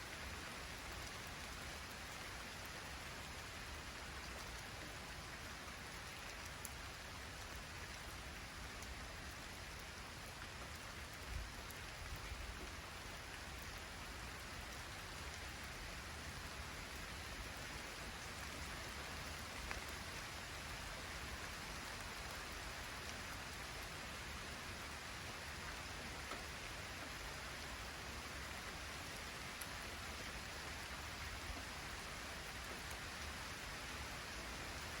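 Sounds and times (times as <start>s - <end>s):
light rain falling: 0.0s - 35.0s
wind: 0.0s - 35.0s.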